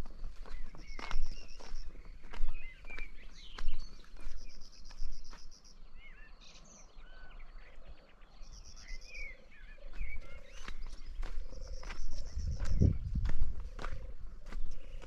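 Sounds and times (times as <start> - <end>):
footsteps on ground: 0.0 - 6.1, 8.8 - 15.0
birds chirping: 0.0 - 15.0.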